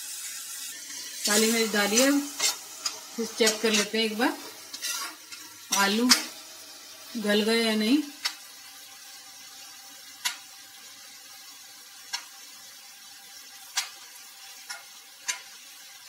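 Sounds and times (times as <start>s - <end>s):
frying sizzle: 0.0s - 16.0s.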